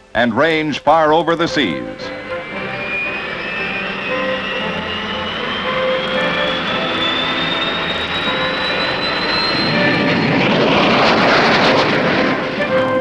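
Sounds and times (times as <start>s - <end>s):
jet engine whining: 0.0s - 13.0s.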